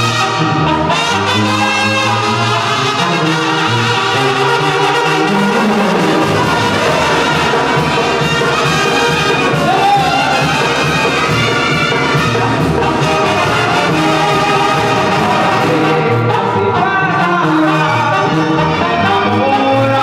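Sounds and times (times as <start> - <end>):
brass band music: 0.0 - 20.0.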